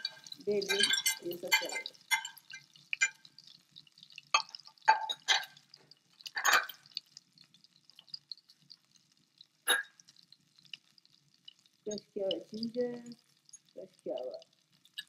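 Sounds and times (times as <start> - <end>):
spices frying with crackles and pops: 0.0 - 15.0.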